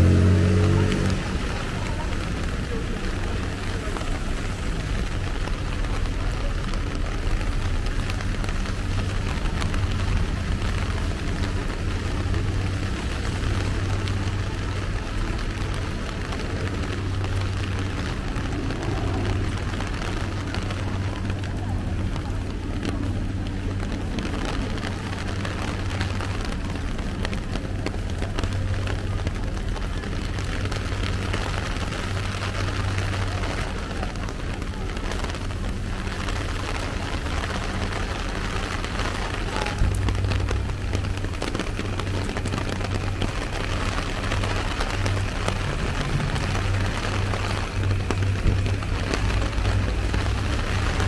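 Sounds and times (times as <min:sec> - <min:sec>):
low rumble: 0:00.0 - 0:51.0
rain pattering on umbrella: 0:00.0 - 0:51.0.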